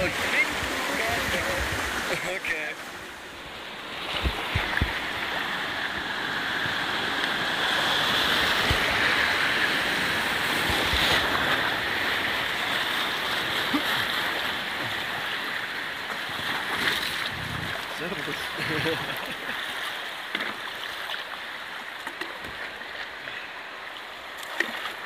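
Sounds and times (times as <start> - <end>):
river rapids rushing: 0.0 - 21.8.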